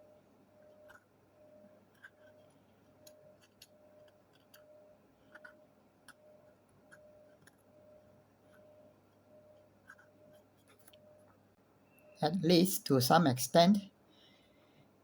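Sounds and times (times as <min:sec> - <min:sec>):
faint pulsing tone: 0:00.0 - 0:13.6.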